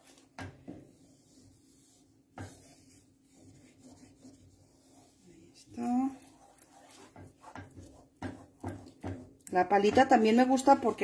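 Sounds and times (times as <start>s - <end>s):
spatula scraping paste in pan: 0.0s - 11.0s.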